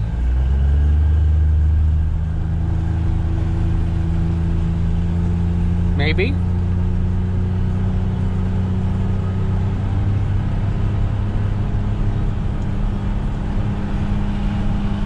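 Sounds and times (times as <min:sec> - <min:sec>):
utility vehicle engine humming: 0:00.0 - 0:15.0.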